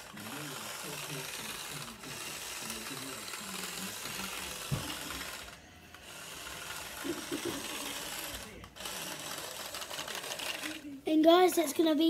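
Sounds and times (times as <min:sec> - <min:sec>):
toy car motor whirring and rattling: 0:00.0 - 0:12.0.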